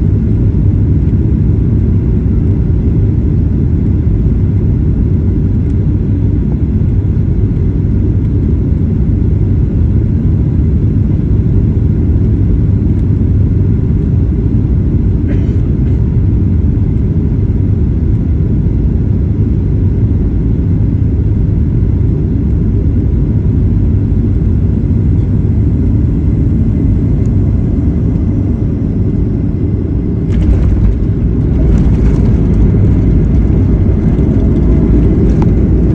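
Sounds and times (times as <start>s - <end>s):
airliner rumble: 0.0s - 35.9s.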